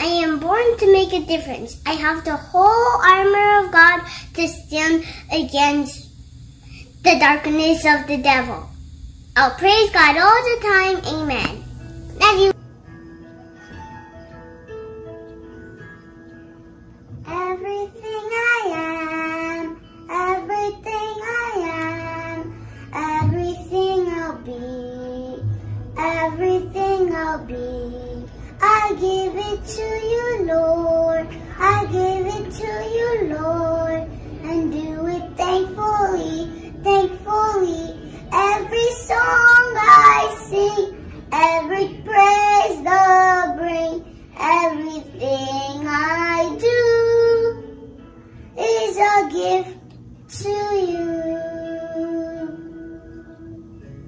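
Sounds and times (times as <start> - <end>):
girl singing: 0.0 - 6.2, 9.4 - 12.6, 17.2 - 53.7.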